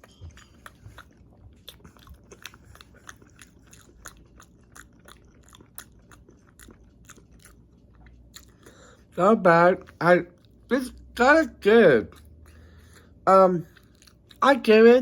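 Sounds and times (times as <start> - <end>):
person chewing with mouth clicks: 0.0 - 11.2, 12.0 - 14.5.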